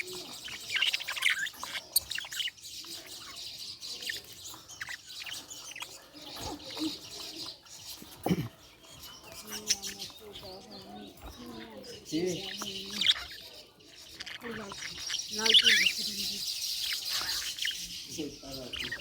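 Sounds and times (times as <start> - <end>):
budgerigar chirping and warbling: 0.0 - 19.0.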